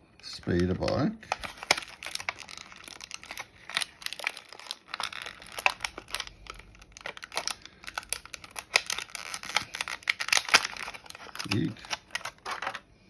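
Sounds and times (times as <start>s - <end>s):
plastic packaging crinkling: 0.2s - 12.9s.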